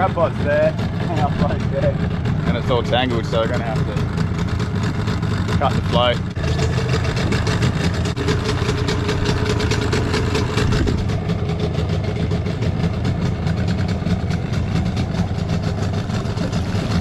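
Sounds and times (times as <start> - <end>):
small outboard motor idling: 0.0 - 17.0.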